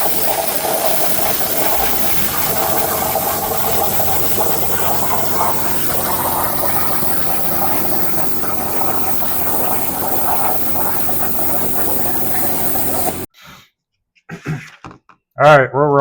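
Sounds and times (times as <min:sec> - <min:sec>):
machine humming and hissing: 0:00.0 - 0:13.3.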